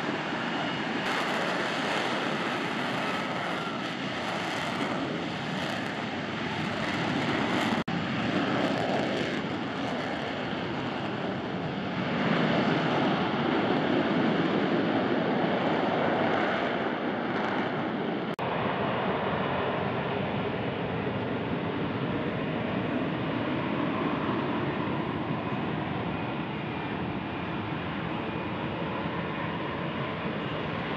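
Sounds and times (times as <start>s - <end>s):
jet engine rush: 0.0s - 30.9s.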